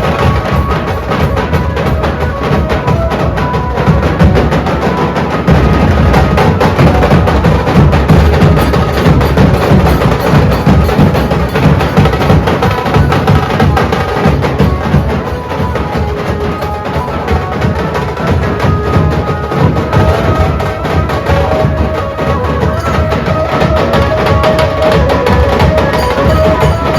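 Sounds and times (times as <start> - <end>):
dhol band playing fast rhythm: 0.0 - 26.9.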